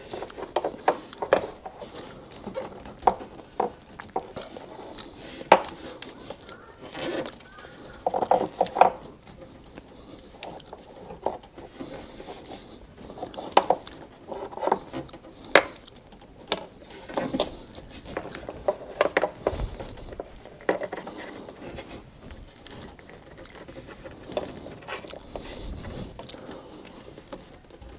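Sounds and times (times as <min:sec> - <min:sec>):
tape crackling as wrapped: 0:00.0 - 0:27.9.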